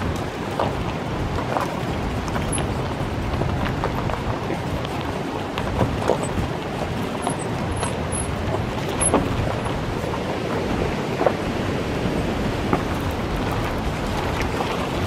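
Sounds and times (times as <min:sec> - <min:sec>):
tyres rumbling on gravel: 0:00.0 - 0:15.0
wheels knocking on stones: 0:00.0 - 0:15.0.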